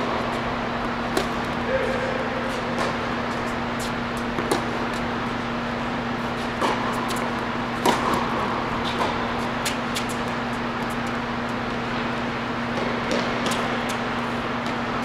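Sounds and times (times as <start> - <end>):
indoor hall hum: 0.0 - 15.0
tennis balls struck and bouncing: 0.0 - 15.0.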